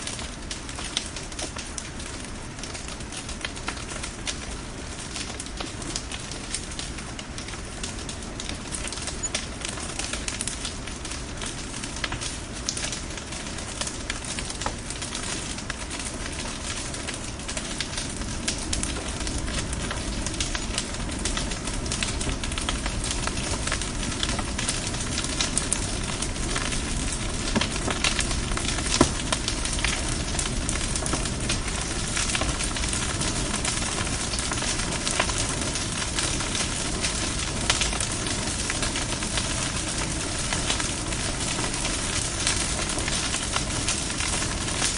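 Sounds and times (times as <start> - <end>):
bonfire wood crackling and popping: 0.0 - 44.9.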